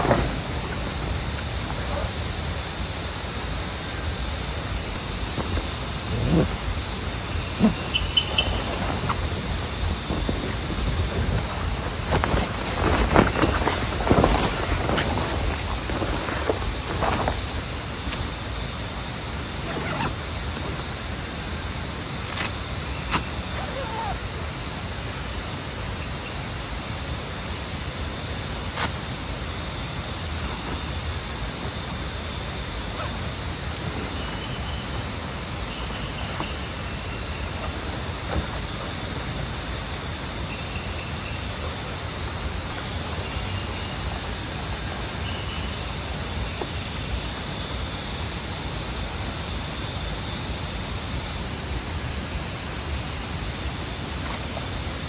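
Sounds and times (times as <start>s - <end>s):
continuous hiss: 0.0s - 55.0s
night insects chirping: 0.0s - 55.0s.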